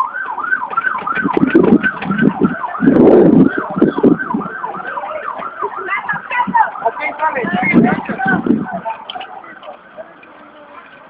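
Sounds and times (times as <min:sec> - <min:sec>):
siren yelping: 0:00.0 - 0:09.4.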